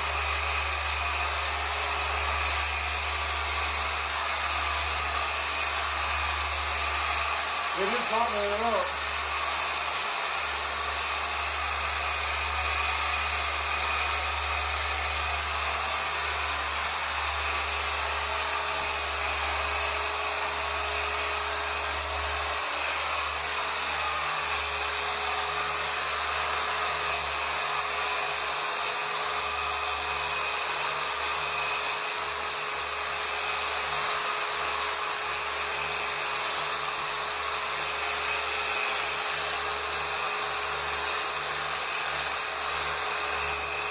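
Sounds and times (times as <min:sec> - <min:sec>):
orbital polisher running: 0:00.0 - 0:43.9.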